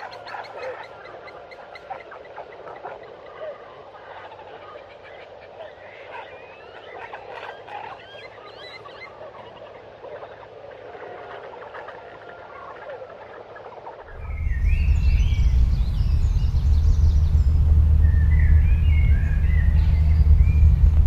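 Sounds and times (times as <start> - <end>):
forest birds chirping: 0.0 - 21.0.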